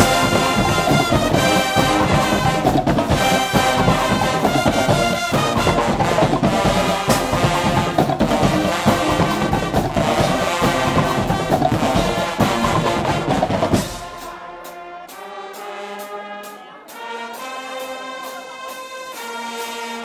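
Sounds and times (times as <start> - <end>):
heavy drums: 0.0 - 19.3
brass band playing loudly: 0.0 - 20.0.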